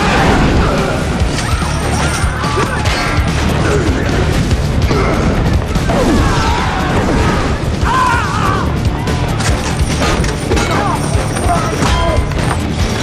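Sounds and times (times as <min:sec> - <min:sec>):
driving score music: 0:00.0 - 0:13.0.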